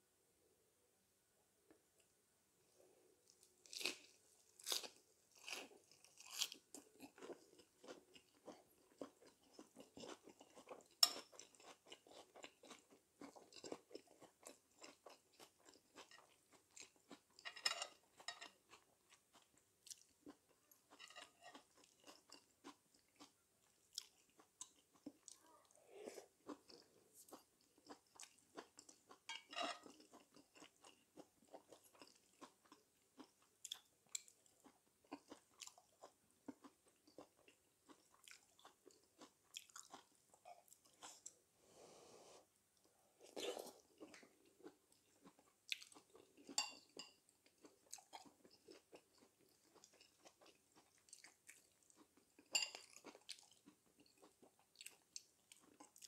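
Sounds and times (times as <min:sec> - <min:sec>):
soft chewing: 0:02.8 - 0:56.0.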